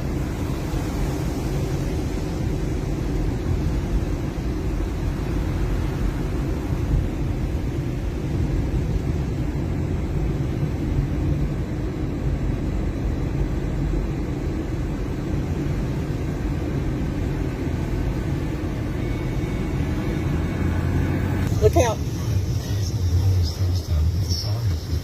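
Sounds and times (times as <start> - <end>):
vehicle driving rumble: 0.0 - 25.0.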